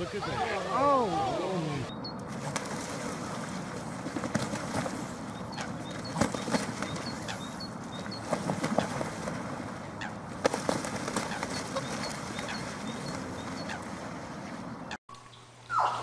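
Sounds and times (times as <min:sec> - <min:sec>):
splashing and wing-flapping: 0:00.0 - 0:15.0.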